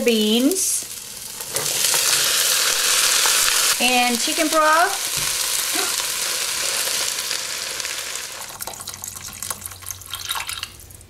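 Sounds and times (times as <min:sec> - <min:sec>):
vegetables sizzling in oil: 0:00.0 - 0:09.7.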